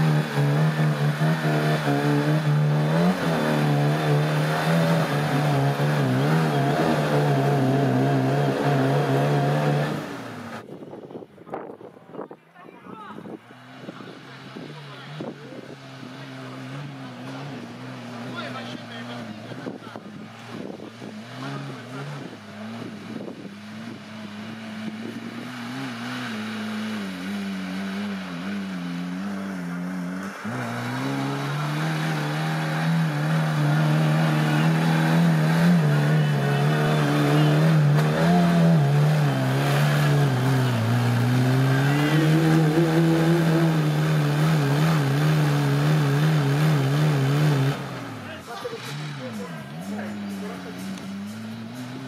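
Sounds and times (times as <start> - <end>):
engine revving under load: 0.0 - 10.7, 13.3 - 52.0.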